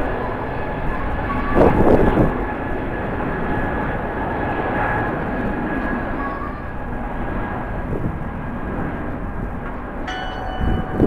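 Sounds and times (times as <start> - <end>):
jet engines roaring: 0.0 - 11.0
strong wind: 0.0 - 11.0.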